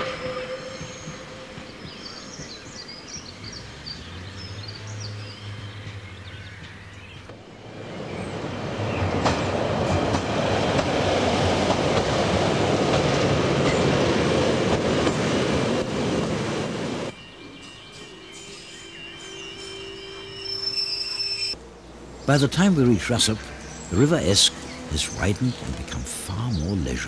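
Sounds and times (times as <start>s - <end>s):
train running noise: 0.0s - 27.0s.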